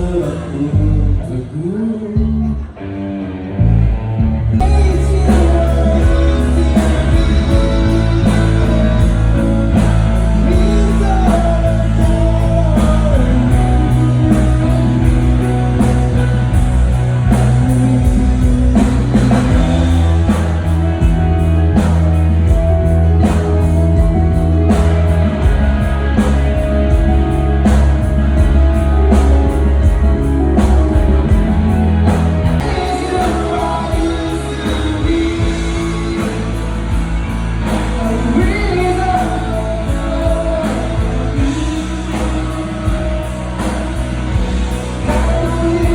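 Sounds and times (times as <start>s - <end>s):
rock band playing live with singer: 0.0s - 45.9s.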